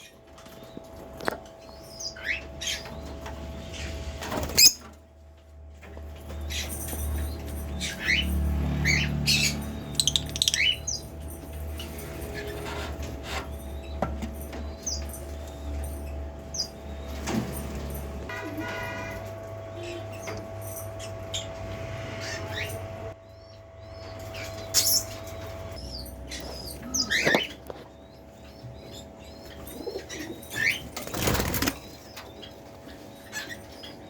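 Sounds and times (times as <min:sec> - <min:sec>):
lovebirds chirping and squawking: 0:00.0 - 0:05.0, 0:06.2 - 0:18.1, 0:19.7 - 0:34.0.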